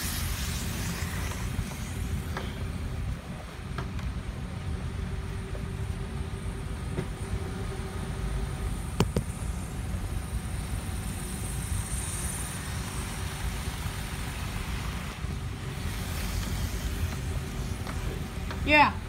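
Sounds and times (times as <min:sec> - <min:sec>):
model train motor whine: 0:00.0 - 0:03.1, 0:05.7 - 0:19.0.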